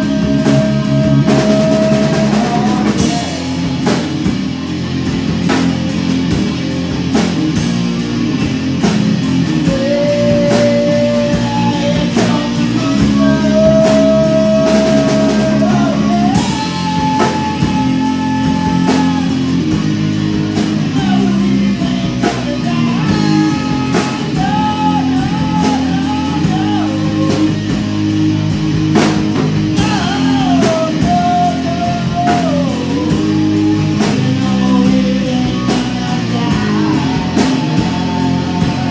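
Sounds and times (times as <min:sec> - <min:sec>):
person singing: 0:00.0 - 0:04.3, 0:09.3 - 0:28.0, 0:29.7 - 0:38.9
drum kit beat: 0:00.0 - 0:38.9
electric guitar: 0:00.0 - 0:38.9.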